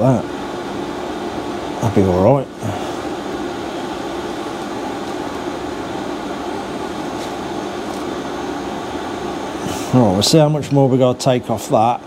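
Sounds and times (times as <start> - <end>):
fan whirring hum: 0.0 - 12.0.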